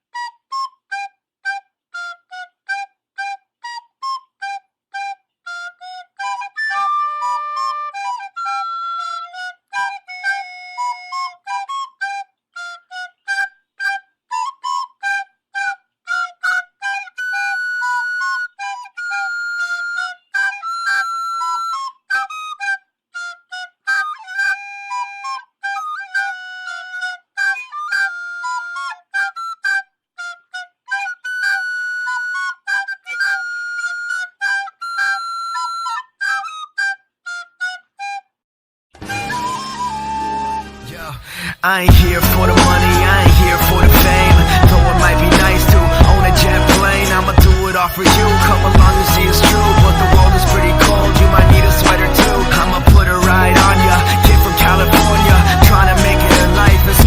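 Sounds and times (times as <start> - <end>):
high flute-like melody: 0.0 - 38.4, 39.0 - 57.0.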